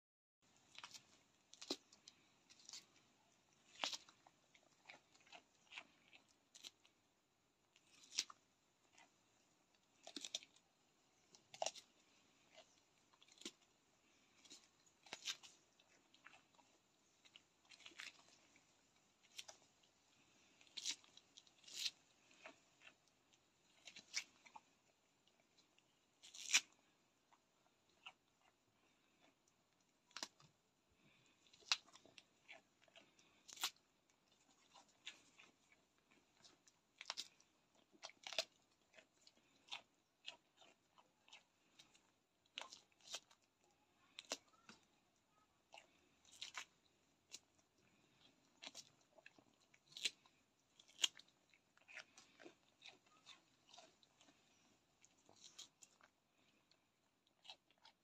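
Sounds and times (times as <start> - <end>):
goat crunching cucumber: 0.6 - 58.0.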